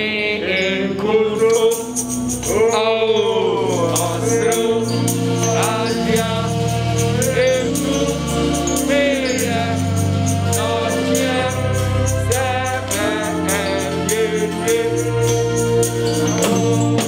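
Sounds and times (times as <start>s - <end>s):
person singing gospel melody: 0.0s - 17.0s
sustained keyboard chords: 0.0s - 17.0s
steady percussion beat: 1.4s - 17.0s.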